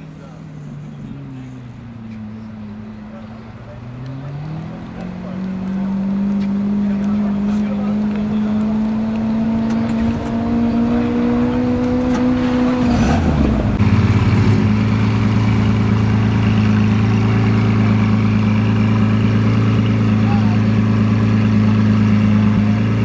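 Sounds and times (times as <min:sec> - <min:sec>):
car engine running steadily: 0:00.0 - 0:23.0.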